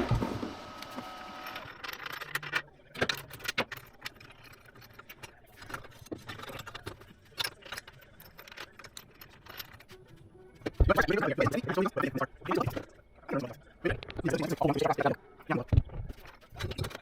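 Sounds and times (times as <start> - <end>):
metal parts and tools clinking: 0.9 - 17.0.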